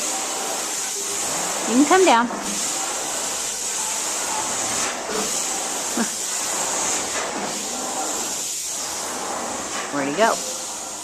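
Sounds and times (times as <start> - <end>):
carpet cleaner spray and suction: 0.0 - 11.0.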